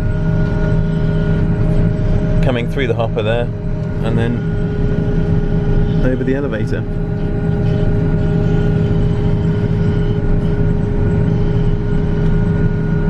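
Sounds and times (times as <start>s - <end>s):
elevator whine: 0.0s - 13.0s
harvester engine drone: 0.0s - 13.0s.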